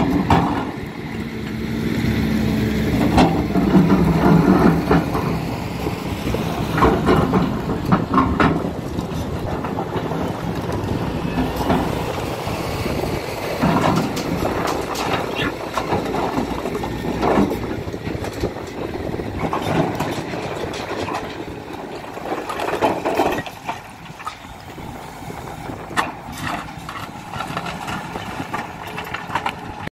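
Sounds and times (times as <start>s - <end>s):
excavator diesel engine running: 0.0s - 29.9s
clunks and scrapes of stones: 2.8s - 29.9s.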